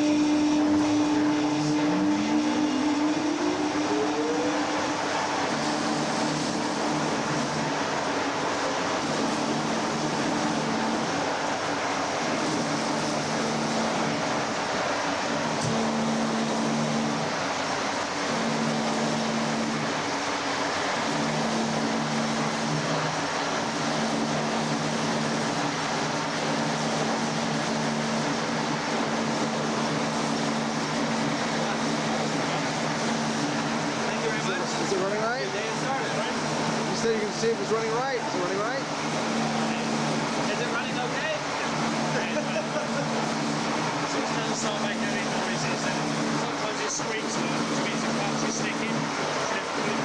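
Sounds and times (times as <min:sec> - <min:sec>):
electric motor humming and whining: 0:00.0 - 0:50.0
machinery running din: 0:00.0 - 0:50.0.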